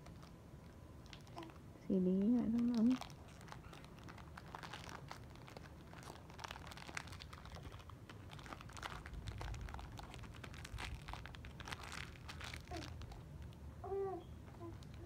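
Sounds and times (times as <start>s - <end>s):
plastic wrapper crinkling: 0.0s - 0.4s, 1.0s - 13.6s, 14.5s - 15.0s.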